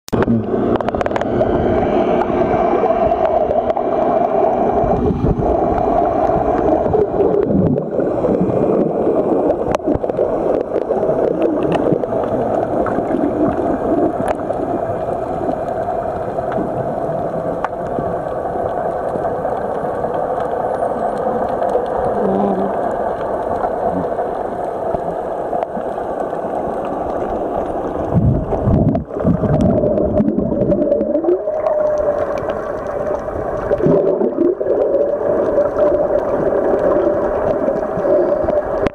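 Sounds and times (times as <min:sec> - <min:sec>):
gurgling water: 0:00.1 - 0:38.9
underwater hum: 0:00.1 - 0:38.9.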